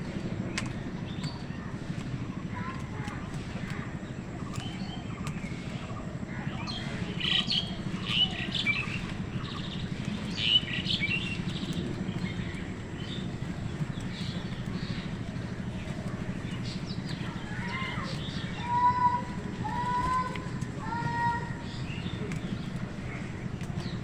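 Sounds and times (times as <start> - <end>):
birds chirping and calling: 0.0 - 24.0
steady low rumble: 0.0 - 24.0.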